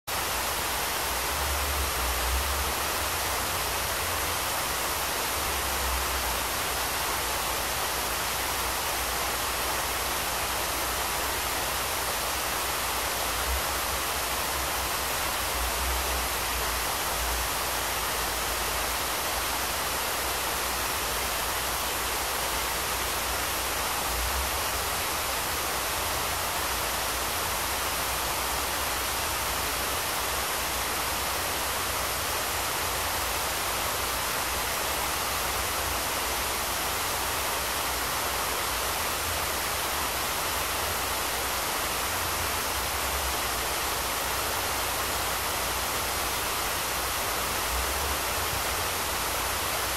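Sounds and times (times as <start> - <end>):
waterfall rushing into pool: 0.0 - 49.9.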